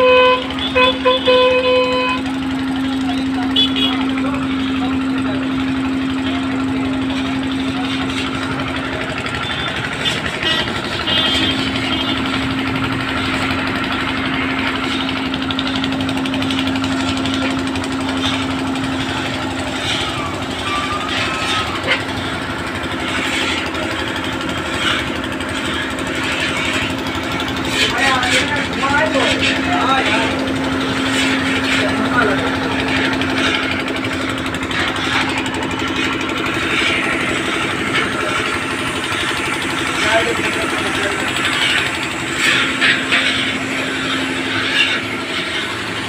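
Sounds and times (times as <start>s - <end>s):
machine noise: 0.0s - 46.0s
motor humming: 0.0s - 46.0s.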